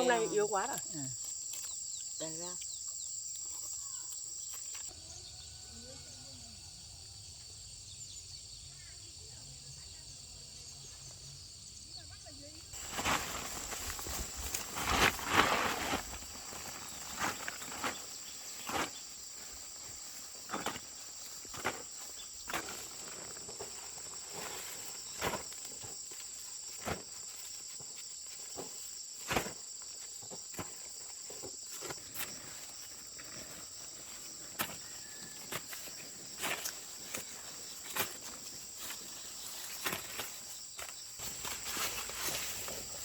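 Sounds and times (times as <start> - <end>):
insects chorus: 0.0 - 43.0.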